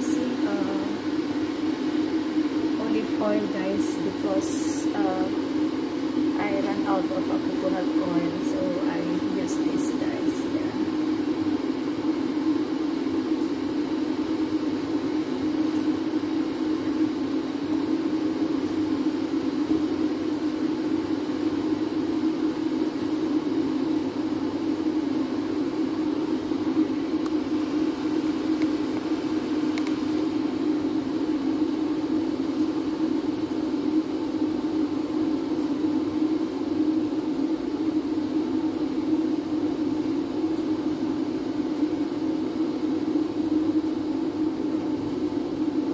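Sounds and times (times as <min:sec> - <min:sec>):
extractor fan whirring: 0:00.0 - 0:45.9.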